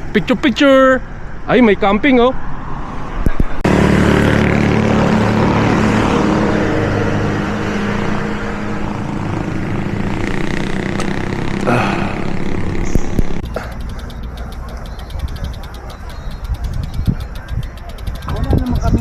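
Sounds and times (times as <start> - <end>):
road noise: 0.0 - 19.0
vehicle engine humming: 3.0 - 19.0.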